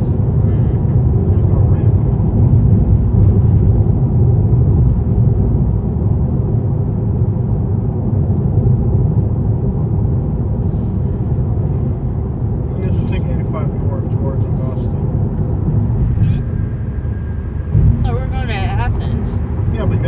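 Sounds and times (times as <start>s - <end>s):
car cabin road noise: 0.0s - 20.0s.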